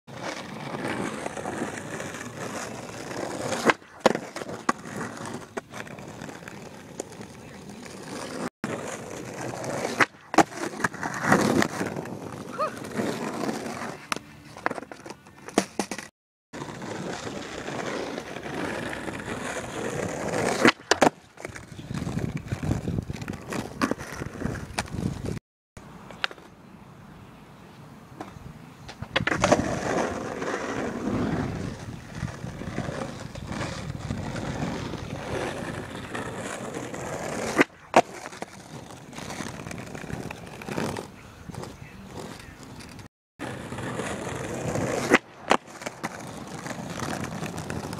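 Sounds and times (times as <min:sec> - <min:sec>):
skateboard wheels rolling on asphalt: 0:00.1 - 0:47.9
skateboard tail popping: 0:00.2 - 0:25.4, 0:26.0 - 0:26.6, 0:28.2 - 0:47.9.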